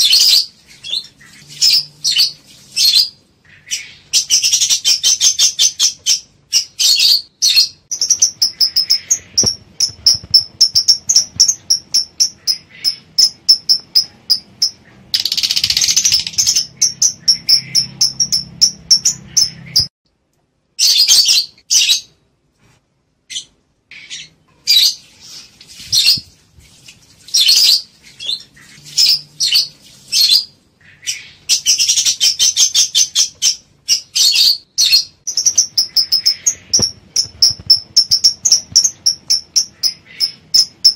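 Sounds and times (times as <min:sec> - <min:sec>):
lovebirds chattering: 0:00.0 - 0:19.9, 0:27.3 - 0:40.9
lovebirds shrill chirping: 0:00.0 - 0:19.9, 0:23.3 - 0:26.3, 0:27.3 - 0:40.9.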